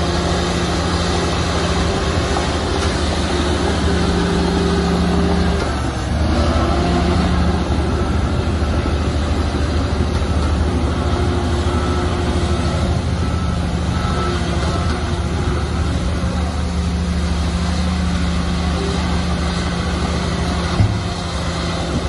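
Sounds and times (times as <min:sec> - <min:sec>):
diesel machinery engine hum: 0:00.0 - 0:22.0.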